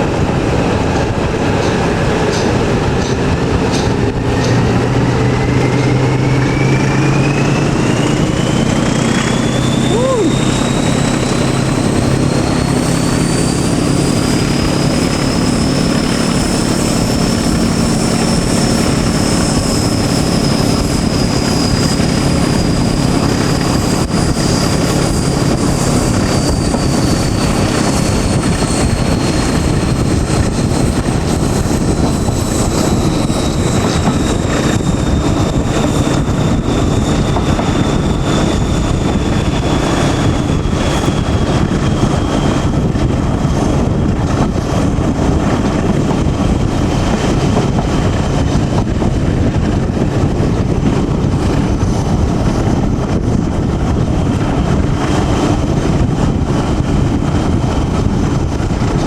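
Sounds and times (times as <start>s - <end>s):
diesel locomotive engine: 0.0s - 59.0s
high whine: 0.0s - 59.0s
moving train noise: 0.0s - 59.0s.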